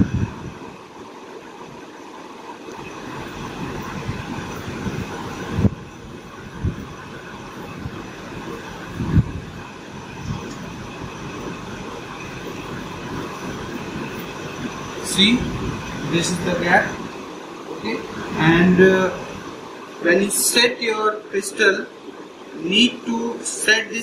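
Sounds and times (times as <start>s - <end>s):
workshop mechanical hum: 0.0s - 24.0s.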